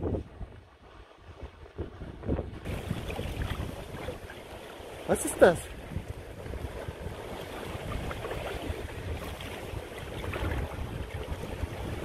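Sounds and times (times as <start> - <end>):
sea waves: 0.0 - 12.0
wind buffeting microphone: 0.0 - 12.0.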